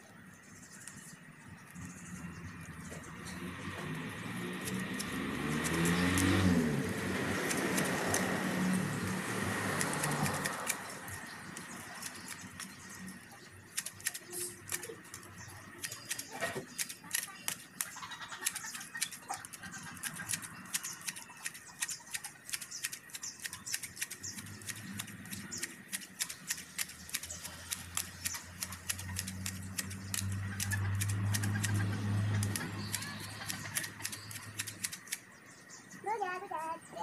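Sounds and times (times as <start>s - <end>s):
grass shears snipping: 3.8s - 13.0s, 13.7s - 35.3s.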